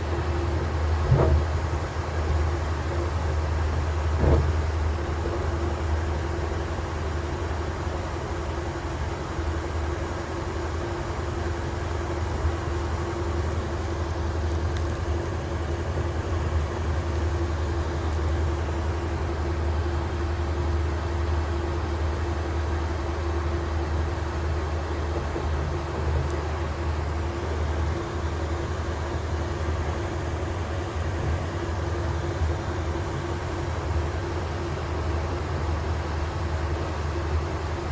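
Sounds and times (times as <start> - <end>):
train rumbling from inside carriage: 0.0 - 37.9.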